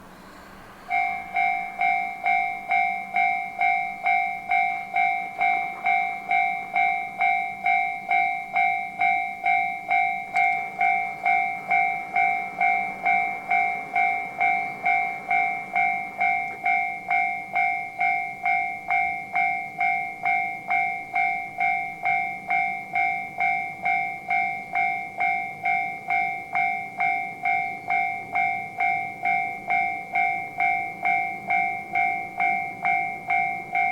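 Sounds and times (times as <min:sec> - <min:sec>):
level crossing warning bell: 0:00.0 - 0:33.9.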